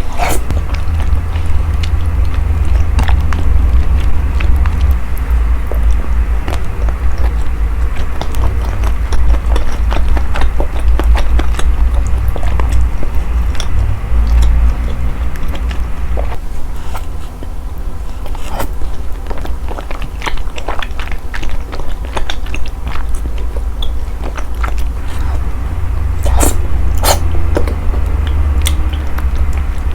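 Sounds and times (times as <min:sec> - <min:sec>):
chewing and biting food: 0:00.0 - 0:29.9
steady low rumble: 0:00.0 - 0:29.9
sharp wet clicks and snaps: 0:00.2 - 0:17.5, 0:18.2 - 0:25.4, 0:26.2 - 0:29.9.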